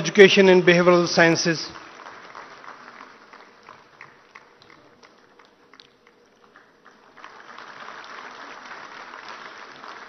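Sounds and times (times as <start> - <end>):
people clapping: 0.6 - 10.0.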